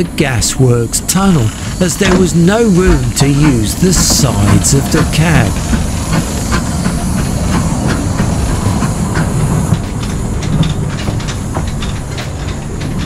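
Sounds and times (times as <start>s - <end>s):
clanks and clicks from wheels: 0.0s - 13.0s
steam hissing: 0.0s - 13.0s
steam locomotive rumble: 0.0s - 13.0s.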